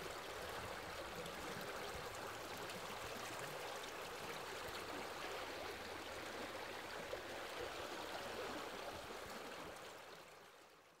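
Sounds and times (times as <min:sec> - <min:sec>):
flowing water: 0:00.0 - 0:10.4.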